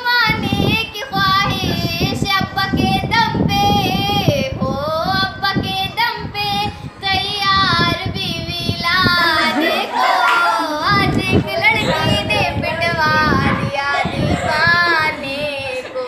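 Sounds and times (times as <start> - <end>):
girl singing unaccompanied: 0.0 - 16.0.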